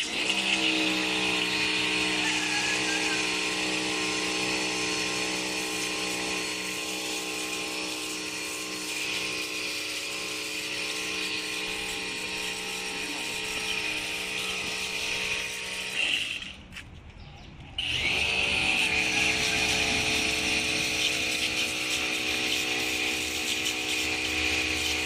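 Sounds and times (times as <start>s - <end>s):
pressure washer pump humming: 0.0s - 16.7s, 17.8s - 25.0s.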